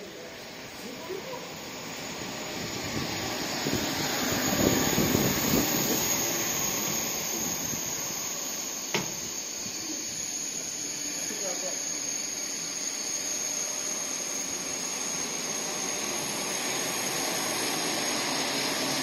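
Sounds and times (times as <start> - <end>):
high-speed train rushing past: 0.0 - 19.0.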